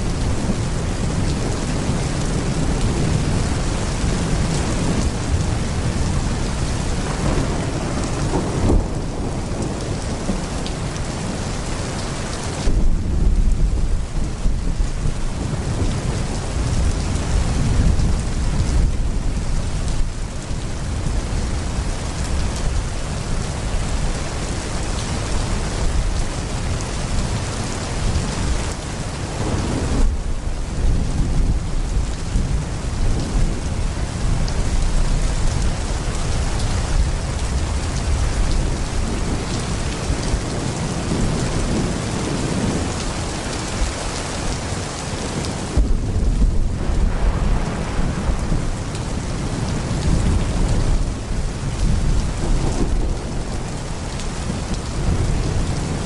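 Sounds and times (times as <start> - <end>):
rolling thunder: 0.0 - 12.0, 12.6 - 56.0
heavy rain pouring: 0.0 - 56.0.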